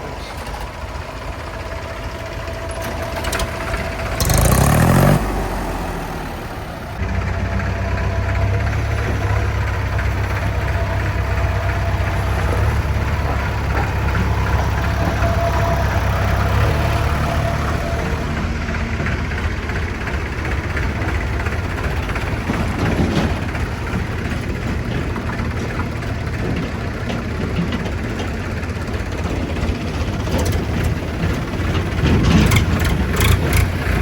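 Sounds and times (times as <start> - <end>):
diesel engine idling: 0.0 - 34.0
diesel engine starting: 0.0 - 34.0.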